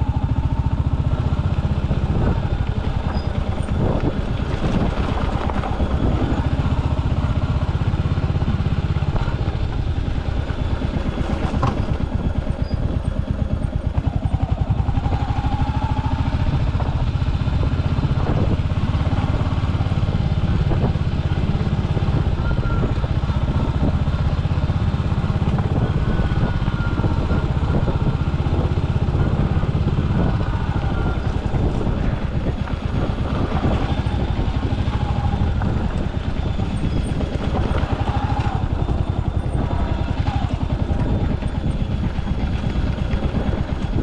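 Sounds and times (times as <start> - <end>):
motorcycle engine at low revs: 0.0 - 44.0.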